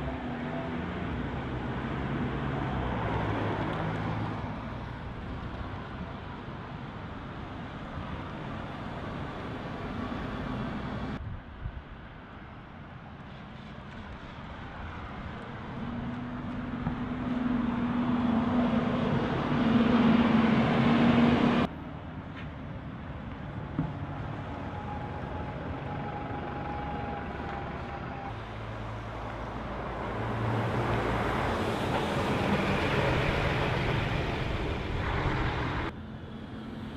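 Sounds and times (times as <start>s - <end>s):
buses driving past: 0.0s - 11.2s, 11.8s - 36.9s
bus engine hum: 0.0s - 11.3s, 13.0s - 36.9s.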